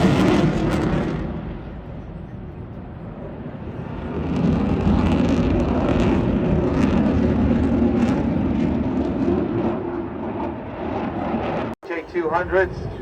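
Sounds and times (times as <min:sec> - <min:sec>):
jet roaring low pass: 0:00.0 - 0:13.0.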